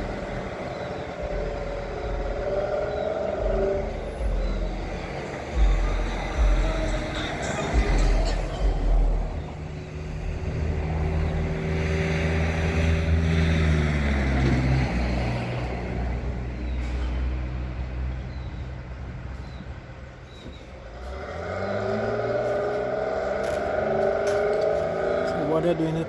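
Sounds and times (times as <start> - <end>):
truck engine running and revving: 0.0 - 26.0.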